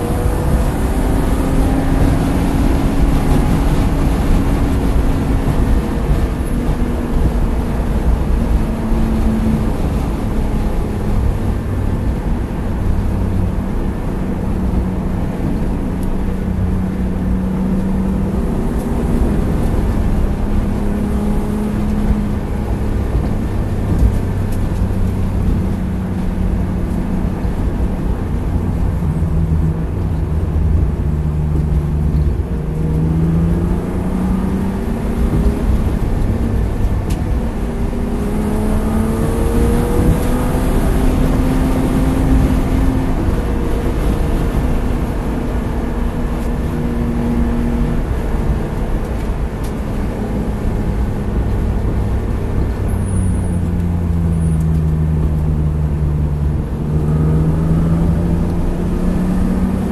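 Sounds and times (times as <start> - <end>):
car engine running: 0.0 - 59.9
road and wind noise: 0.0 - 59.9.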